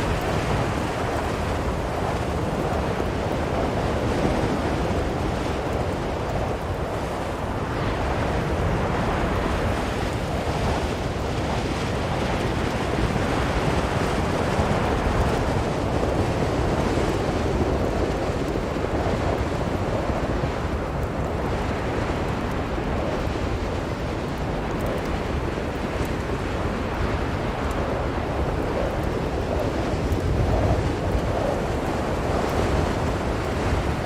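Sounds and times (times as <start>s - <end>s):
blizzard wind blowing: 0.0s - 34.0s.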